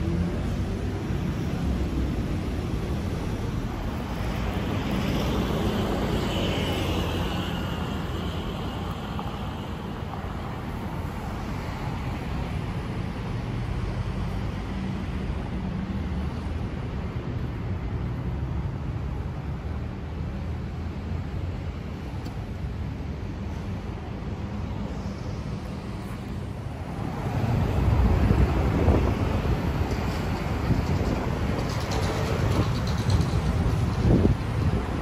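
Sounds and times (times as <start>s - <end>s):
road traffic hum: 0.0s - 35.0s.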